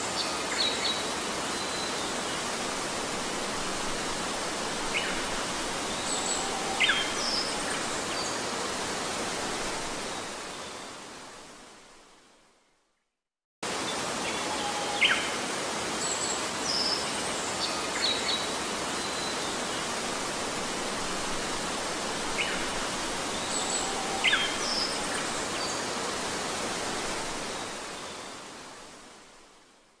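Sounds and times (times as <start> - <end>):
waterfall rushing: 0.0 - 11.6, 13.7 - 29.6.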